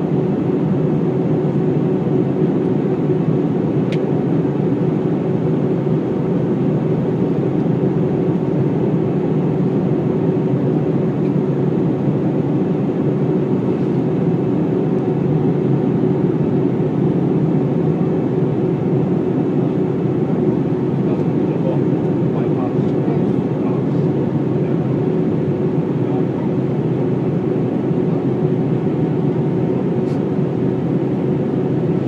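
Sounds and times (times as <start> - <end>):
airplane cabin engine and airflow noise: 0.0 - 32.0
constant hum: 0.0 - 32.0.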